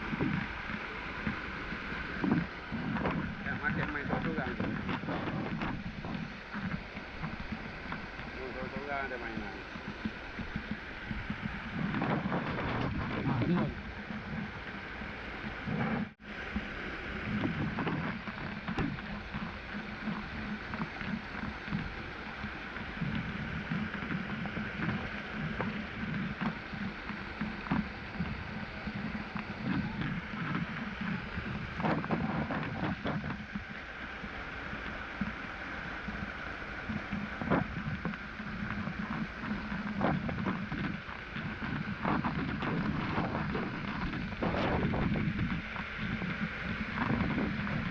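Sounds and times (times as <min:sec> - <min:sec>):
water splashes: 0:00.0 - 0:47.9
waterfall and stream rushing: 0:00.0 - 0:47.9.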